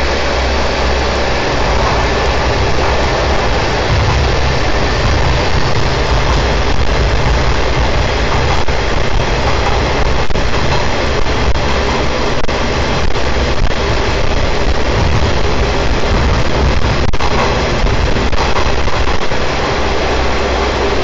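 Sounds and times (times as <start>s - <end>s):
train wheels rumbling on rails: 0.0s - 21.0s
faint rail clicks: 0.1s - 21.0s.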